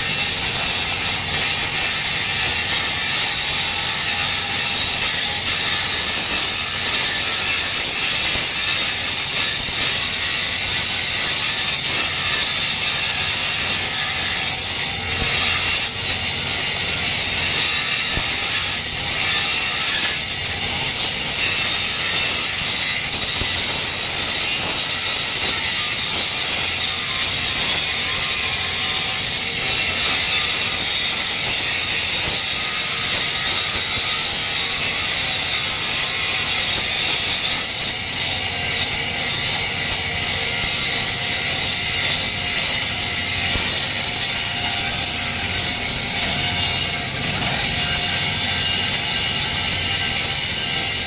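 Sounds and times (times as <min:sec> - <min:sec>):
welding arc crackling and sizzling: 0:00.0 - 0:51.0.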